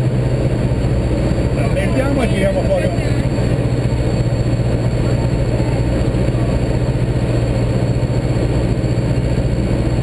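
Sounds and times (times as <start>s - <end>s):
aircraft engine and propeller drone: 0.0s - 10.0s.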